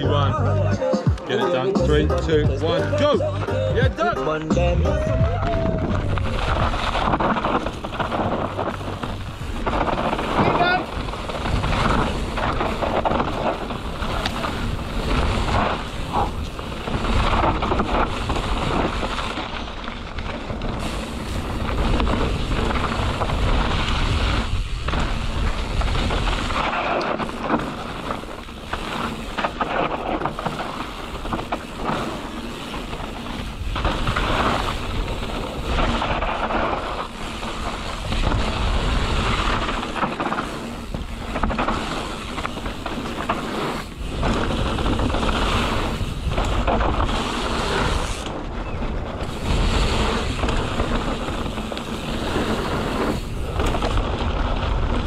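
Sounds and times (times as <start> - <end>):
bike tyres rumbling on dirt: 2.3 - 55.0
wind over microphone: 5.0 - 55.0.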